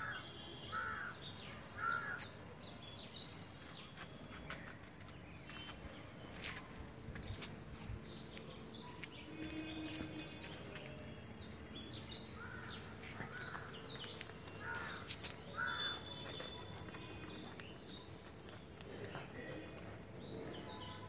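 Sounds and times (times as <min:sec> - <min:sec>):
harsh bird calls: 0:00.0 - 0:02.4, 0:05.5 - 0:21.0
birds chirping: 0:00.0 - 0:21.0.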